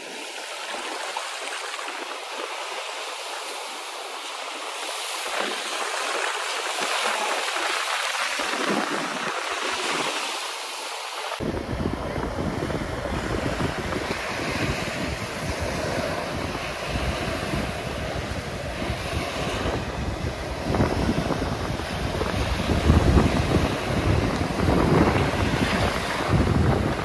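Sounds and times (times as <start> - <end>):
small surf breaking on sand: 0.0 - 27.0
wind buffeting microphone: 4.4 - 10.5, 11.2 - 27.0.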